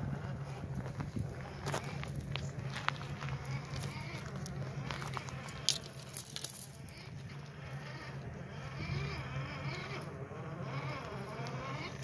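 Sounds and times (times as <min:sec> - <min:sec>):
rc car motor whining: 0:00.0 - 0:12.0.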